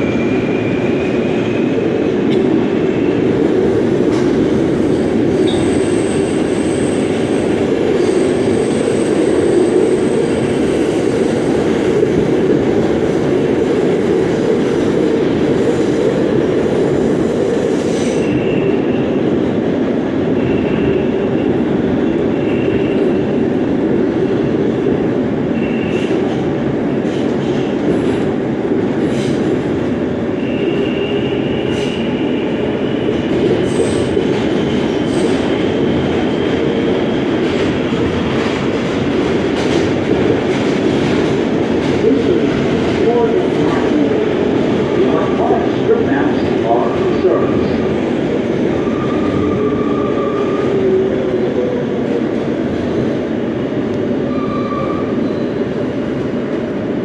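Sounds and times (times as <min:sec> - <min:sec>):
subway car rumbling in tunnel: 0:00.0 - 0:57.0.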